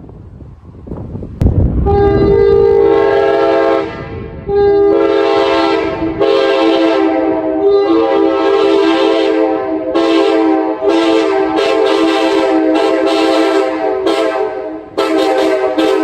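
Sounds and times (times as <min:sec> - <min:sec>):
air horn chord blasts: 0:01.8 - 0:16.0.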